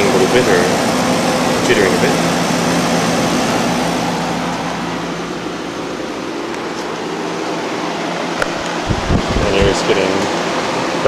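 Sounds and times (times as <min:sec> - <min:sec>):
compressor humming: 0:00.0 - 0:11.0
fan air rushing: 0:00.0 - 0:11.0.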